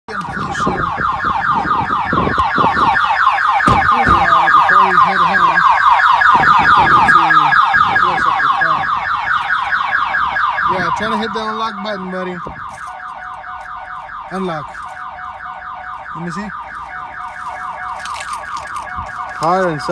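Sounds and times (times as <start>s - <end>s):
car alarm rapid chirping: 0.1s - 19.9s.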